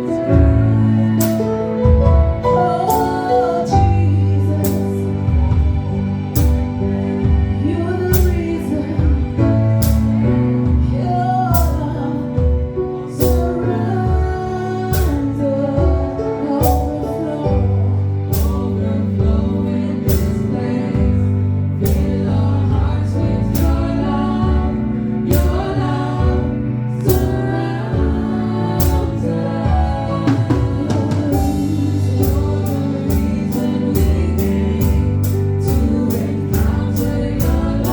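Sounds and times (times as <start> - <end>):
bass line: 0.0 - 37.9
gospel singing: 0.0 - 37.9
sustained chords: 0.0 - 37.9.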